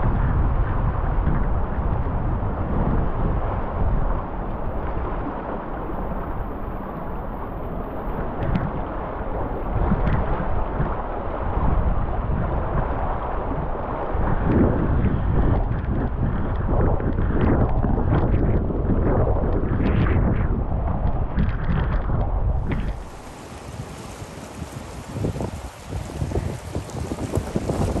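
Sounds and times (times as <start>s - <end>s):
floodwater rushing: 0.0s - 19.8s, 20.5s - 28.0s
wind buffeting microphone: 0.0s - 28.0s.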